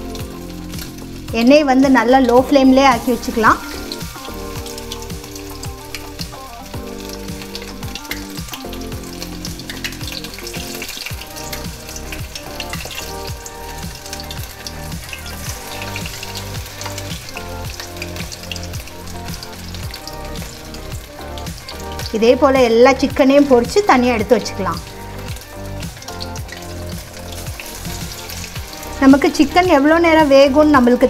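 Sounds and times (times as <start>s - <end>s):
chicken deep-frying in oil: 0.0s - 31.0s.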